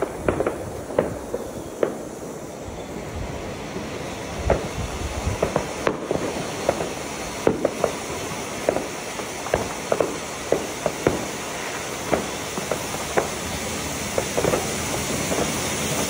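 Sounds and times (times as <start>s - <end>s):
fireworks cracking and popping: 0.0s - 16.0s
fountain firework hissing: 0.0s - 16.0s.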